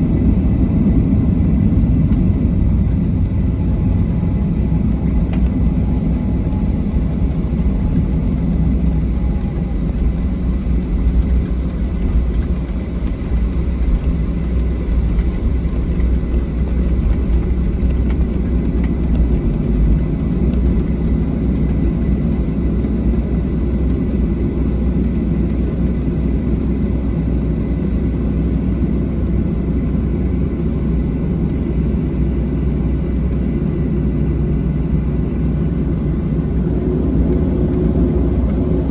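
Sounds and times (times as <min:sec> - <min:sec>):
jet engines low rumble: 0:00.0 - 0:38.9.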